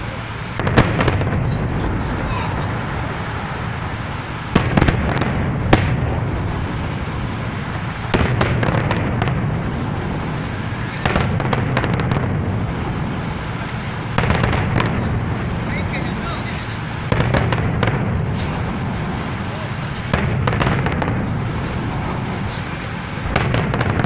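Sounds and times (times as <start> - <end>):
continuous low rumble: 0.0 - 24.0
fireworks crackling pops: 0.0 - 24.0.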